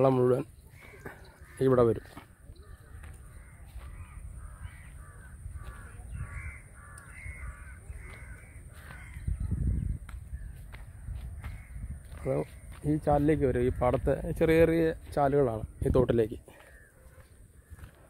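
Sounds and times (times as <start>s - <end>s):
crows cawing: 0.6s - 18.0s.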